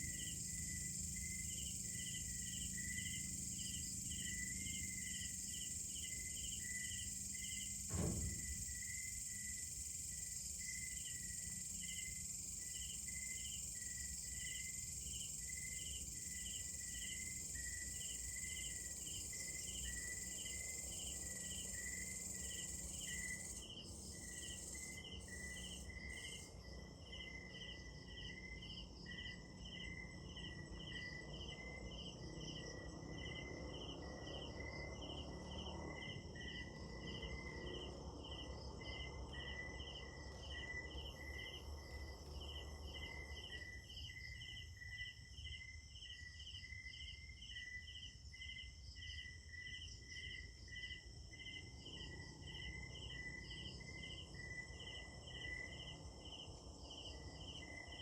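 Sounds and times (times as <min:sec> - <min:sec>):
insect trill: 0:00.0 - 0:58.0
insects chirping rhythmically: 0:00.0 - 0:58.0.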